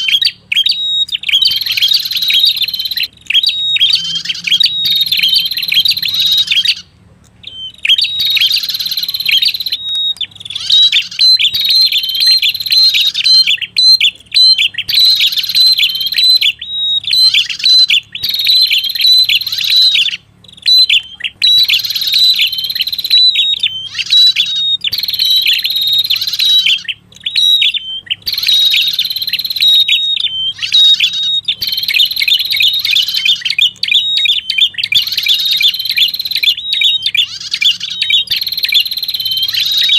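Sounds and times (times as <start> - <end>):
bird song rapid chirping: 0.0 - 39.9.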